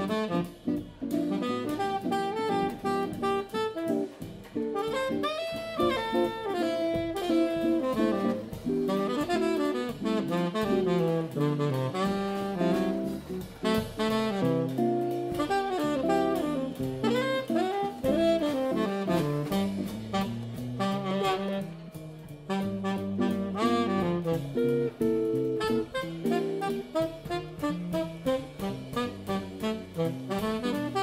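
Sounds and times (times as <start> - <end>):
drum kit: 0.0 - 31.0
guitar accompaniment: 0.0 - 31.0
saxophone melody: 0.0 - 31.0.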